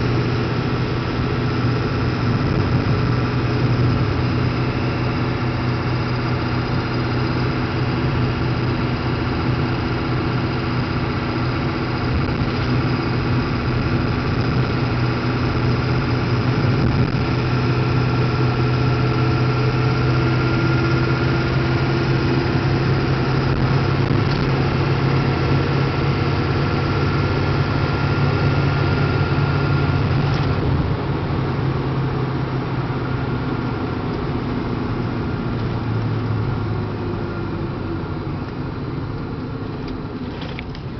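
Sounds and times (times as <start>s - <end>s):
diesel truck engine driving: 0.0s - 40.9s
road noise: 0.0s - 40.9s.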